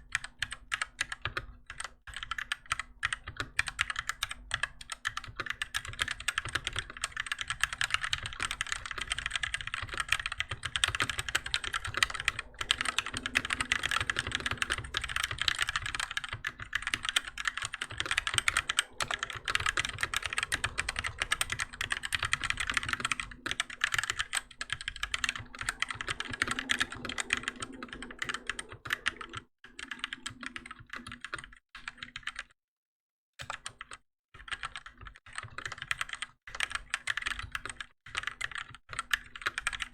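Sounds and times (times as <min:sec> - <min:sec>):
fast typing on mechanical keyboard: 0:00.0 - 0:32.6, 0:33.4 - 0:39.9.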